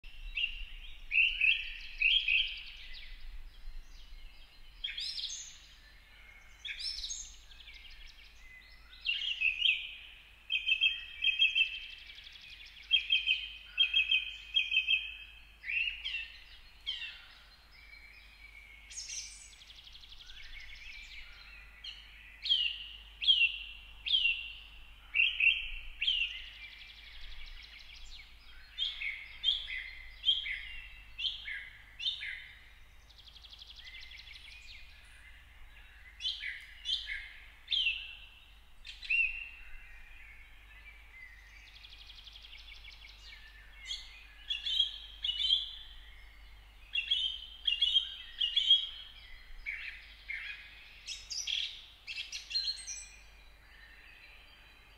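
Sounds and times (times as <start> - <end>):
birds calling: 4.5 - 54.9.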